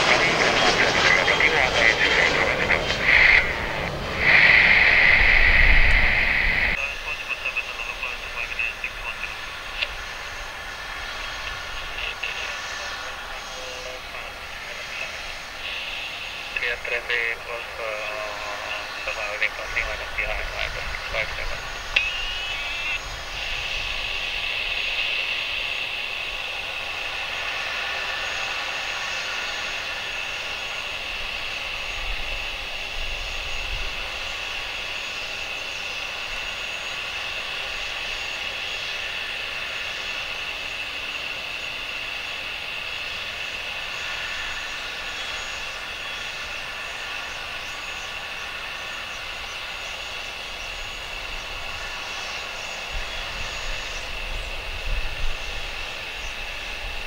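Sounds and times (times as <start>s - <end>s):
jet engine whine: 0.0s - 57.0s.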